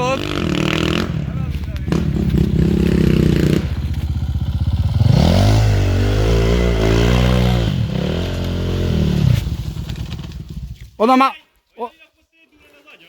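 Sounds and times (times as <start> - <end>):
motorcycle engine revving: 0.0 - 10.9.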